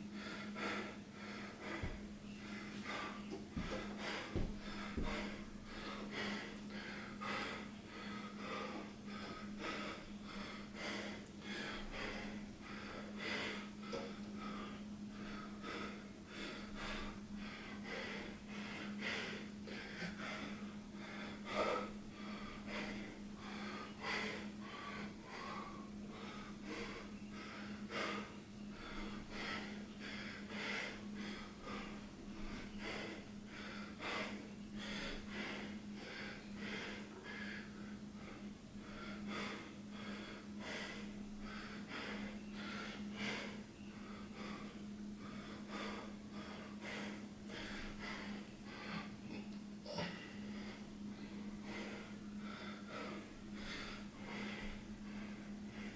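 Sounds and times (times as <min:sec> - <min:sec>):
person breathing heavily: 0:00.0 - 0:55.9
steady low hum: 0:00.0 - 0:55.9.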